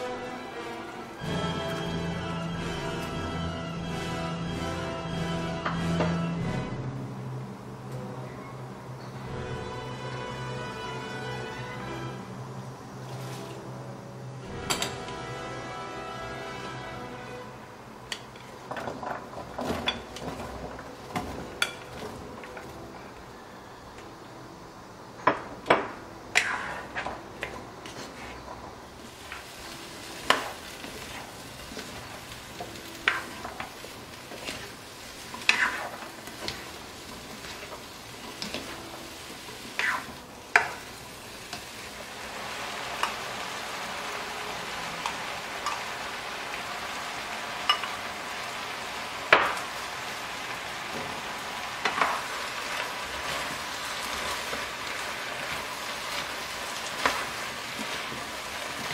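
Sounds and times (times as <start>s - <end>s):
spatula scraping wok: 0.0s - 7.0s, 12.9s - 22.9s, 26.3s - 58.9s
vegetables sizzling: 0.0s - 8.3s, 8.9s - 58.9s.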